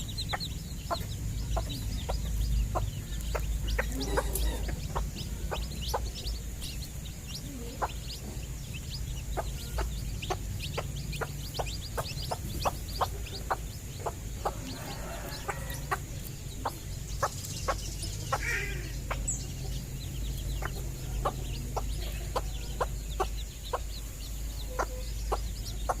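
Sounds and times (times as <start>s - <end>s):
hen and chicks clucking: 0.0s - 26.0s.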